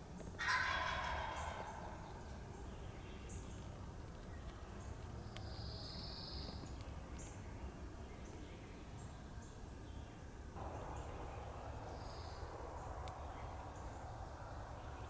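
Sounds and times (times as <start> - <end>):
songbird chirps: 0.9 - 14.2.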